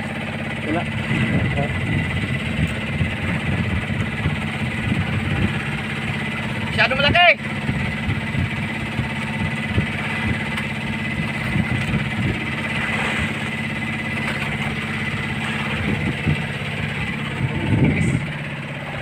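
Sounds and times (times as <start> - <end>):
small boat engine humming: 0.0 - 19.0.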